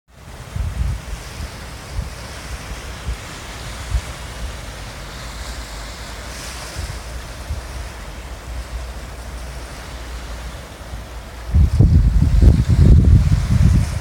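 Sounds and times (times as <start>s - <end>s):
waves washing onto beach: 0.1s - 14.0s
wind rumbling on microphone: 0.1s - 14.0s.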